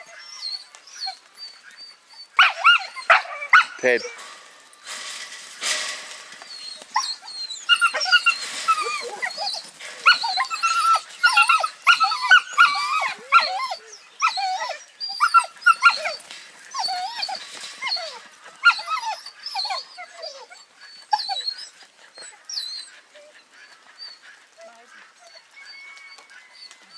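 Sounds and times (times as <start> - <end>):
dog whining and yipping: 0.0 - 4.4, 5.0 - 23.4, 24.0 - 26.9.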